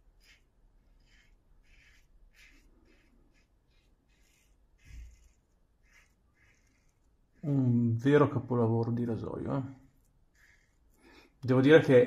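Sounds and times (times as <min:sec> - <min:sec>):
razor scraping stubble: 0:00.0 - 0:12.0.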